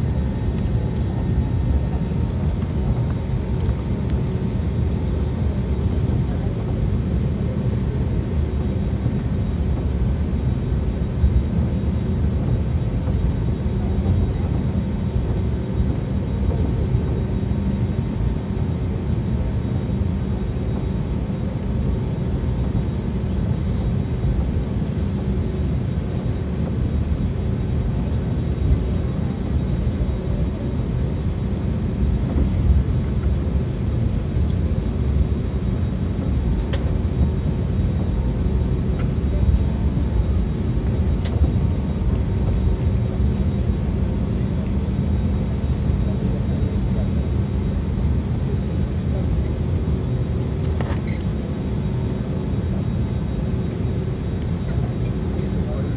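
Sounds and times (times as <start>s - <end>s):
aircraft cabin engine rumble: 0.0s - 55.9s.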